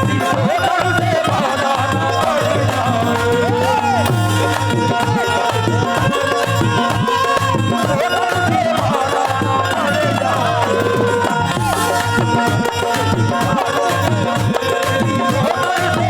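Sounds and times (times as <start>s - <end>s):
tabla rhythm: 0.0s - 16.0s.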